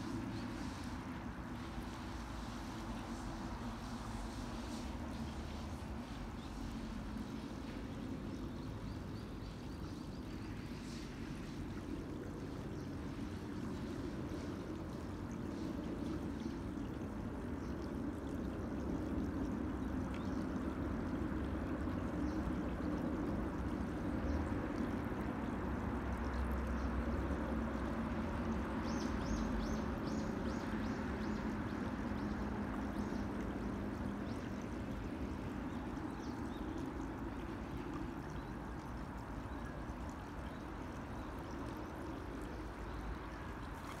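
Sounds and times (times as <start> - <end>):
stream trickling and gurgling: 0.0 - 44.0.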